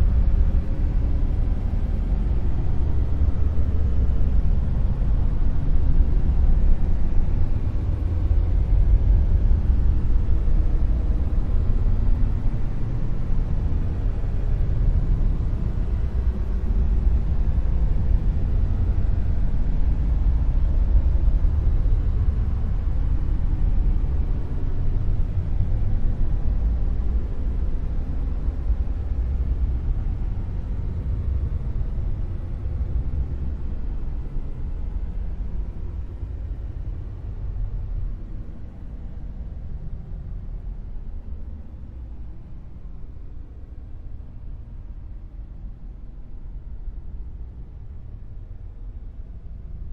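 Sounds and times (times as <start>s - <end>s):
deep rumbling dark noise: 0.0s - 49.9s.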